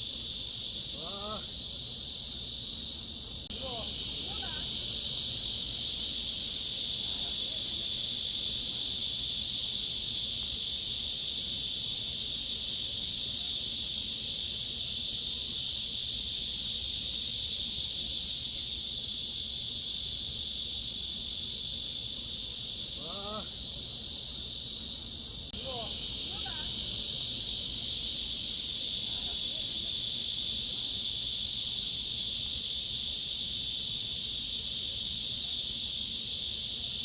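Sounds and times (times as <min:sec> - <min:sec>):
cicadas buzzing: 0:00.0 - 0:37.0.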